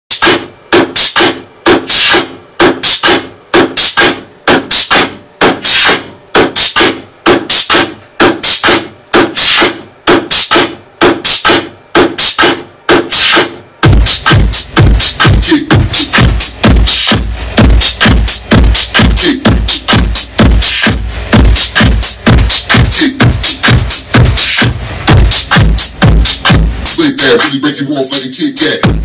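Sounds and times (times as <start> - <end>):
deep bass beats: 0.1 - 29.0
electronic dance music: 0.1 - 29.0.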